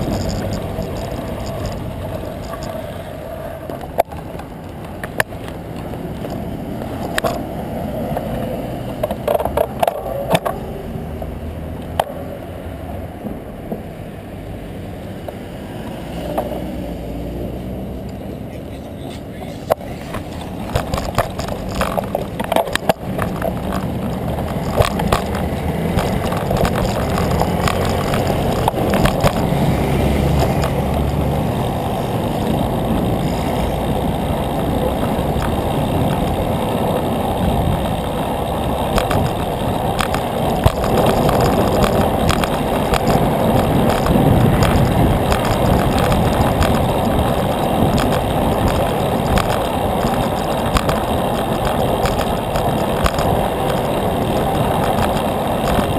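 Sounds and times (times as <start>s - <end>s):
bike clicks and rattles: 0.0s - 10.8s, 19.6s - 55.9s
bicycle road noise: 0.0s - 55.9s
rushing wind: 0.0s - 55.9s.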